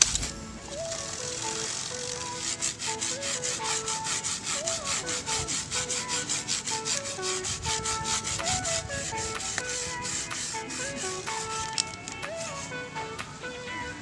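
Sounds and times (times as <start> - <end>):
background music: 0.0 - 14.0
toothbrush scrubbing bicycle chain: 0.7 - 13.2.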